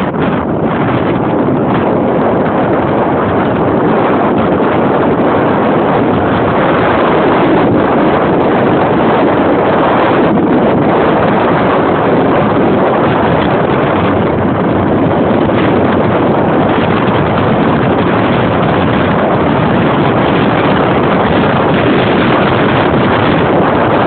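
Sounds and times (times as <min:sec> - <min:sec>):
vehicle road noise: 0:00.0 - 0:24.0
wind rush on microphone: 0:00.0 - 0:24.0.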